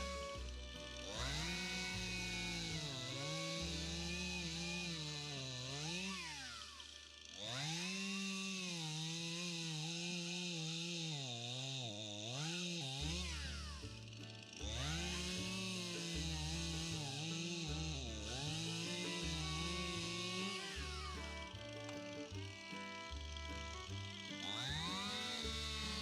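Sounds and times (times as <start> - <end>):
chainsaw cutting a log: 0.0 - 26.0.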